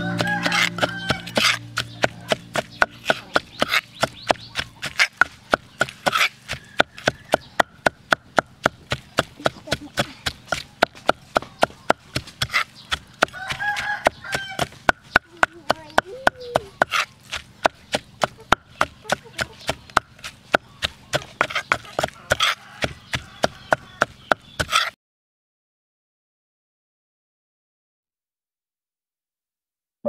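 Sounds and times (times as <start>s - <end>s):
pestle pounding in stone mortar: 0.0s - 25.0s.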